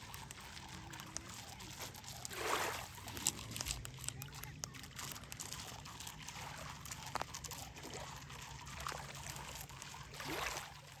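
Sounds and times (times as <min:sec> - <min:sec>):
water lapping at shoreline: 0:00.0 - 0:11.0.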